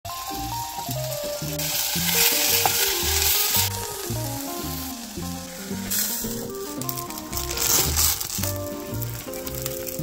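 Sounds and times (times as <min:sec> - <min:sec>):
background music: 0:00.1 - 0:10.0
onion sizzling in oil: 0:00.1 - 0:10.0
wooden spoon stirring: 0:01.4 - 0:09.8.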